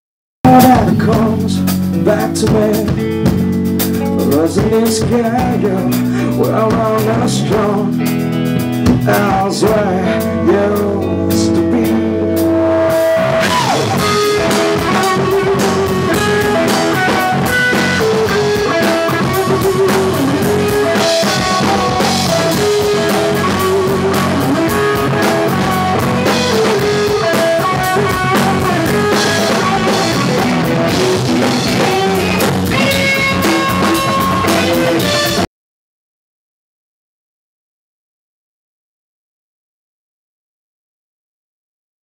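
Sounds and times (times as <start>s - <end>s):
rock band music: 0.4s - 35.5s.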